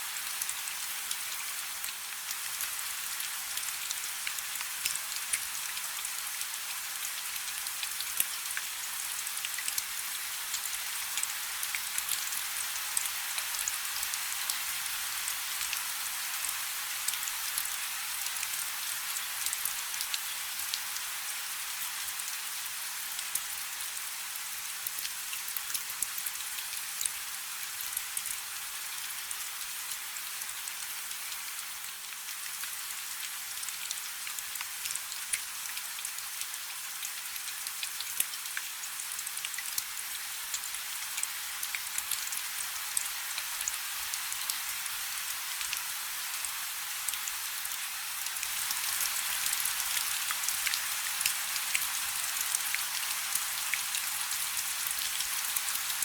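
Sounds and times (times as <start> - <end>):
rain falling on a river: 0.0 - 56.0.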